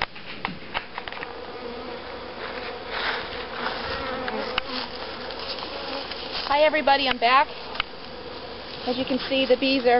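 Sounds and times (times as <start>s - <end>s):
honeybees buzzing: 0.0s - 9.9s.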